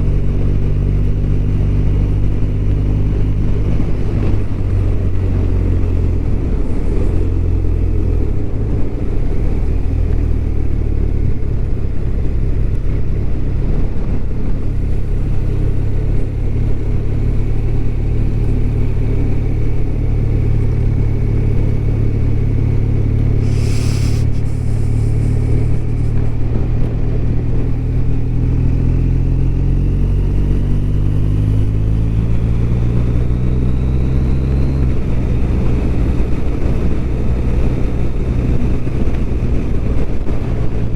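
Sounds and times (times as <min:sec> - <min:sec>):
motorcycle engine cruising: 0:00.0 - 0:40.9
road and wind noise: 0:00.0 - 0:40.9.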